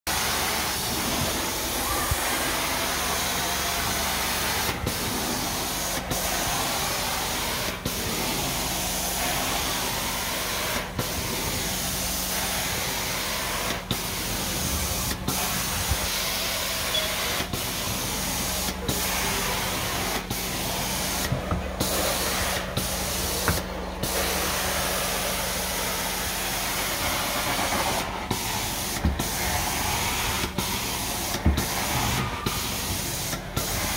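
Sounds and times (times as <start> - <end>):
carpet cleaner spray and suction hiss: 0.1 - 33.9.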